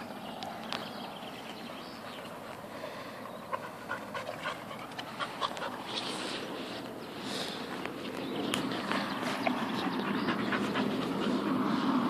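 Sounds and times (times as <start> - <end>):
dogs panting: 0.6 - 12.0.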